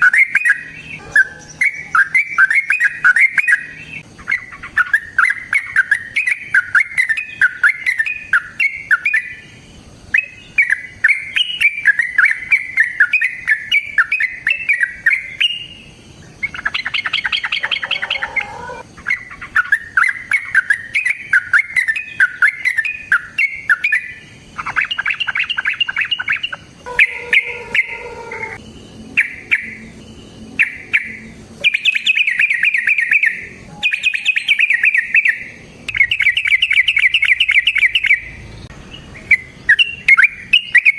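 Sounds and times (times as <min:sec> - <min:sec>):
bird singing chattering song: 0:00.0 - 0:40.9.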